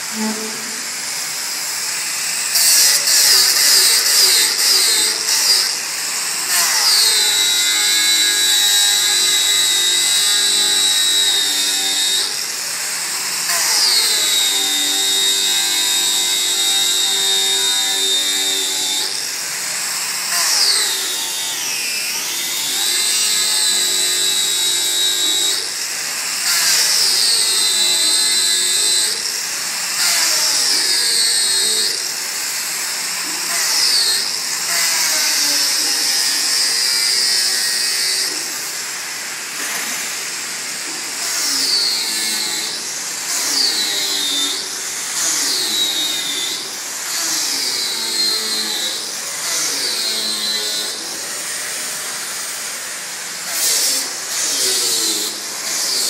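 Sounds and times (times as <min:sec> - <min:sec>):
angle grinder grinding metal: 0:00.0 - 0:56.0.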